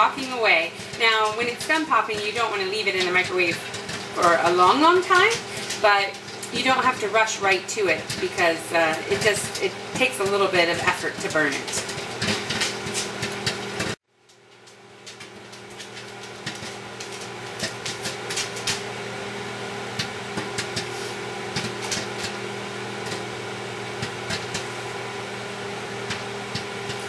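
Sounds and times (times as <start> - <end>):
microwave oven humming: 0.0 - 27.0
popcorn kernels popping: 0.0 - 27.0.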